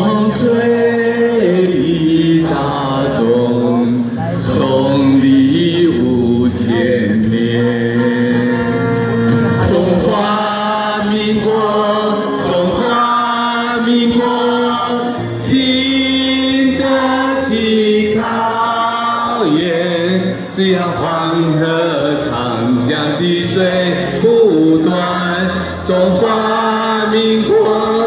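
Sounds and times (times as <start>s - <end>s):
choir singing folk song: 0.0s - 28.0s
recorded backing music: 0.0s - 28.0s.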